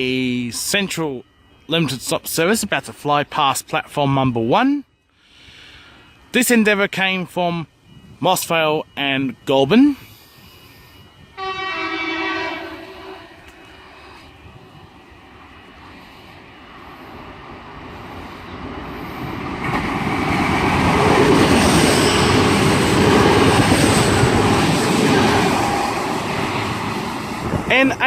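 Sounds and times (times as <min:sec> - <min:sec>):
diesel train passing: 0:00.0 - 0:28.0
faint high whine: 0:00.0 - 0:28.0.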